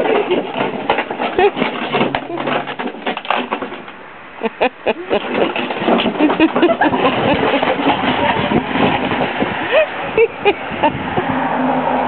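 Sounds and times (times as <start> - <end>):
sled scraping over snow: 0.0 - 3.9, 4.8 - 12.0.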